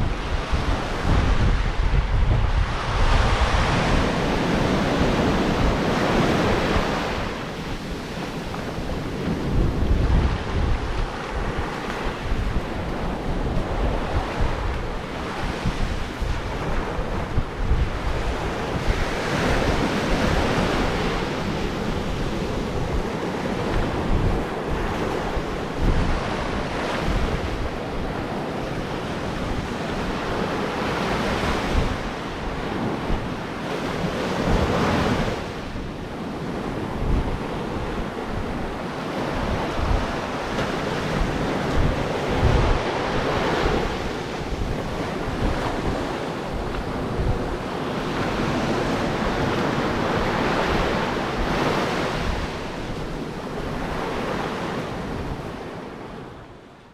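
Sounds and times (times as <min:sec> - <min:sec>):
ocean surf breaking on shore: 0:00.0 - 0:56.9
wind buffeting microphone: 0:00.0 - 0:56.9.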